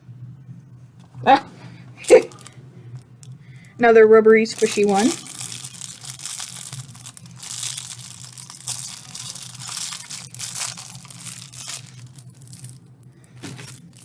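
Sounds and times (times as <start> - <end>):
plastic packaging crinkling: 1.7 - 14.0.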